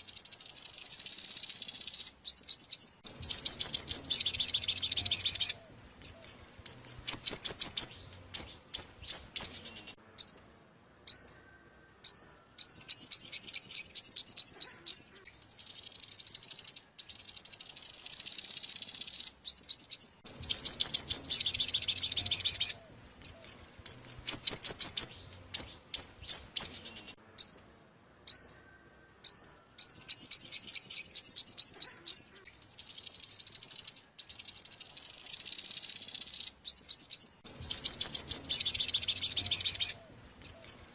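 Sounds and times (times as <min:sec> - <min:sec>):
sunbird chirps and trills: 0:00.0 - 0:40.9.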